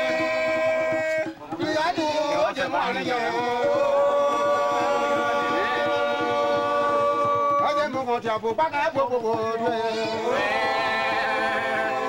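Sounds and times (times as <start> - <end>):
voices singing a long note: 0.0 - 7.8, 9.3 - 12.0.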